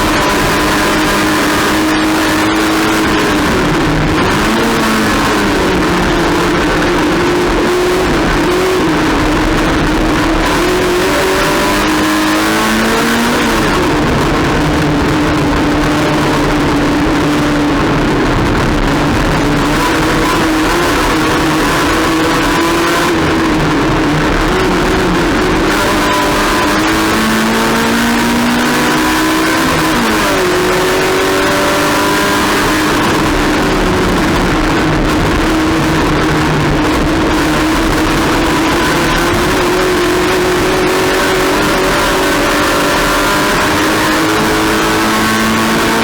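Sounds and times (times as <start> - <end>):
race car engine accelerating: 0.0 - 46.0
steady rushing noise: 0.0 - 46.0.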